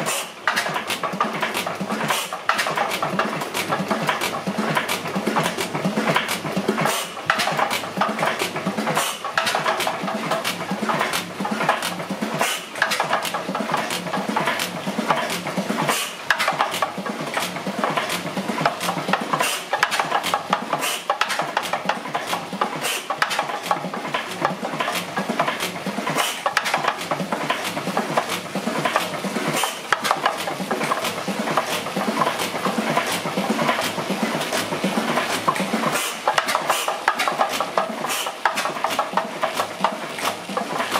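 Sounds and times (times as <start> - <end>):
engine clattering: 0.0 - 40.9.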